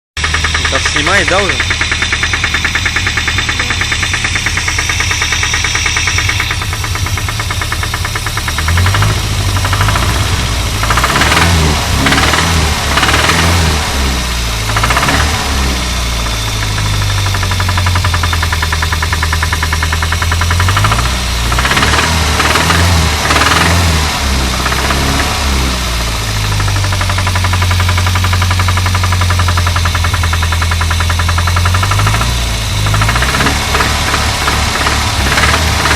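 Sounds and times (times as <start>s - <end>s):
car engine running: 0.0s - 35.9s
rapid engine knock: 0.0s - 35.9s.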